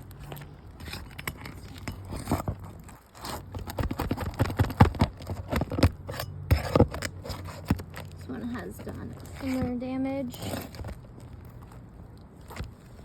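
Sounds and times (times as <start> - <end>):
roof shingles crunching and scraping: 0.0 - 13.0.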